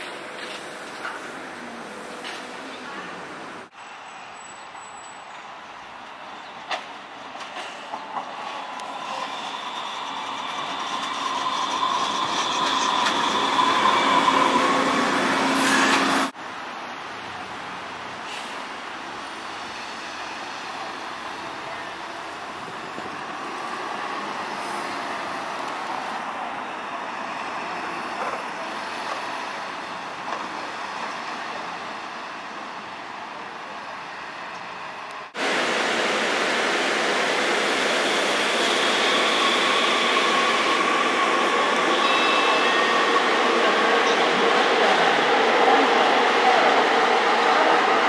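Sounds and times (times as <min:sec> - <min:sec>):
city street traffic: 0:00.0 - 0:48.0
light rail train running: 0:00.0 - 0:48.0.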